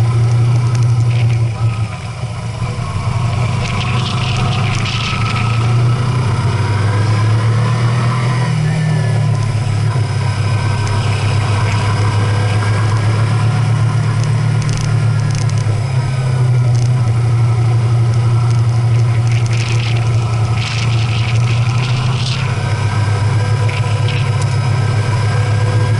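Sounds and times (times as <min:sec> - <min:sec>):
vehicle engine humming: 0:00.0 - 0:25.9.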